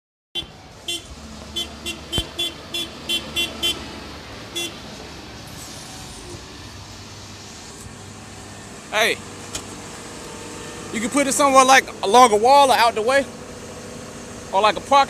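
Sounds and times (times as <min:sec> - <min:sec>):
low engine hum: 0:00.4 - 0:15.0.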